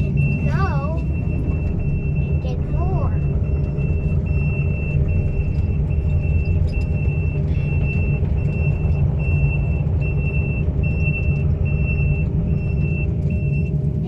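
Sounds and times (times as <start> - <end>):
high-pitched warning alarm beeping: 0.0 - 13.8
excavator diesel engine running: 0.0 - 14.0.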